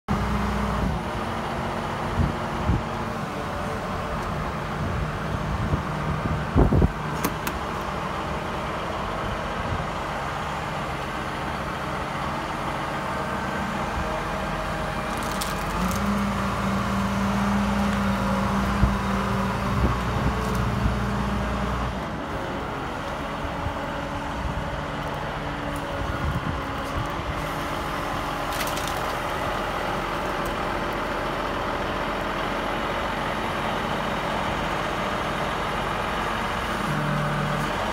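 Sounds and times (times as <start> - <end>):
diesel loader engine running: 0.1 - 37.9.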